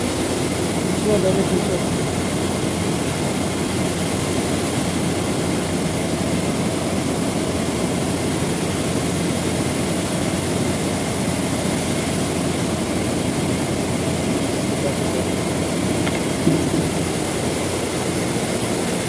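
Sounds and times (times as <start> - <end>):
low rushing mechanical hum: 0.0 - 19.0.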